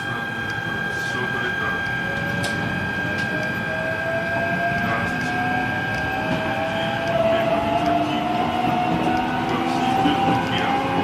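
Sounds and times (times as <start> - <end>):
electric train motor whine: 0.0 - 11.0
steady higher tone: 0.0 - 11.0.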